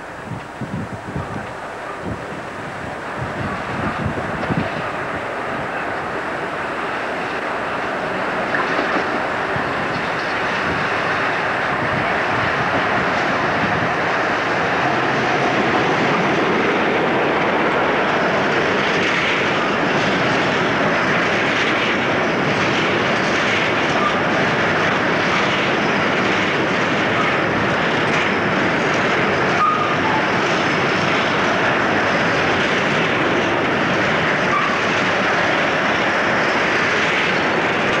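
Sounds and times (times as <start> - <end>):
diesel locomotive engine: 0.0 - 38.0.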